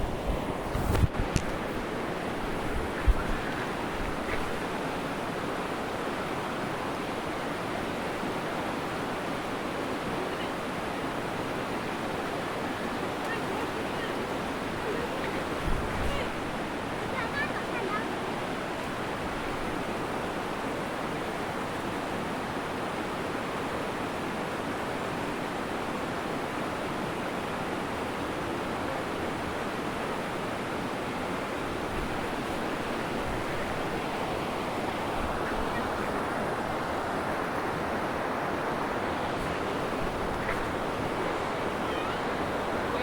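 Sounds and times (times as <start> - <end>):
water rushing: 0.0 - 43.0.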